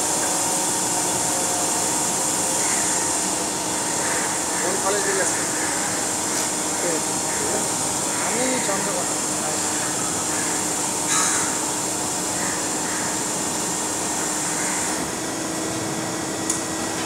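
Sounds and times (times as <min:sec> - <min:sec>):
loud hiss: 0:00.0 - 0:15.2
machinery hum and hiss: 0:00.0 - 0:17.0.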